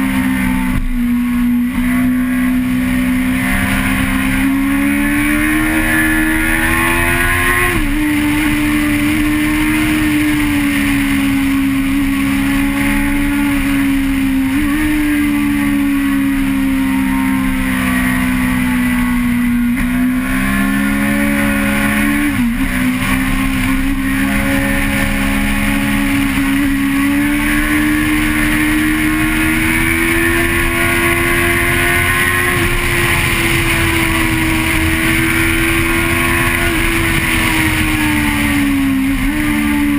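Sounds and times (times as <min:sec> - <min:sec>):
vehicle engine revving high: 0:00.0 - 0:39.9
wind and road hiss: 0:00.0 - 0:39.9.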